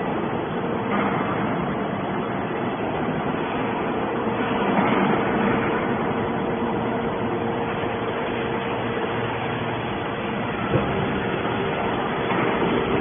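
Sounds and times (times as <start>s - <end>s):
baler mechanical drone: 0.0s - 13.0s
faint constant whine: 0.0s - 13.0s.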